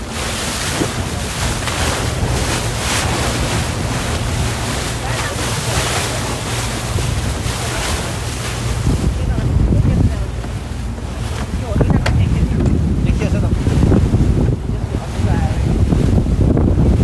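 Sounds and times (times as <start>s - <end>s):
boat engine drone: 0.0s - 17.0s
water rushing past boat: 0.0s - 17.0s
wind buffeting microphone: 0.0s - 17.0s.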